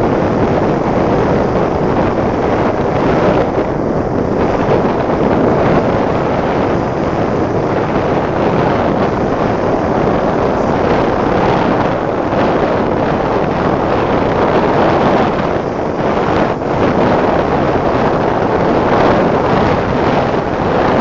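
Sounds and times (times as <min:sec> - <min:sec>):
motorcycle engine at speed: 0:00.0 - 0:21.0
wind buffeting microphone: 0:00.0 - 0:21.0.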